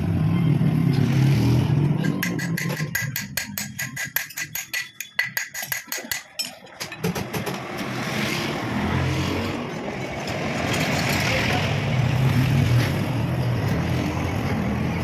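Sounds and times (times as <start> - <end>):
motor vehicle noise: 0.0 - 5.1, 6.7 - 15.0.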